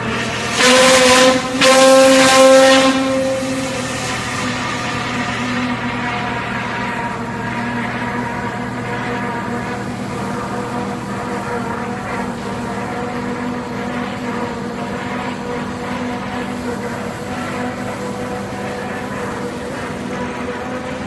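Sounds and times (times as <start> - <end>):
industrial machinery drone: 0.0 - 21.0.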